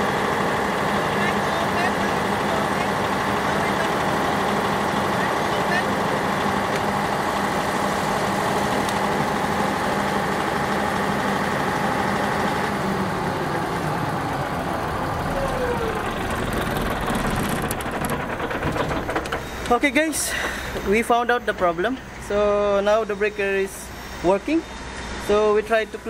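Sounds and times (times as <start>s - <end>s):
generator engine running: 0.0s - 26.0s.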